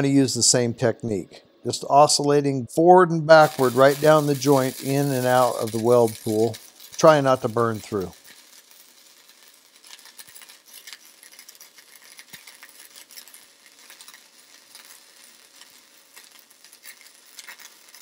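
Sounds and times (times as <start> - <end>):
welding arc crackling: 3.3 - 18.0.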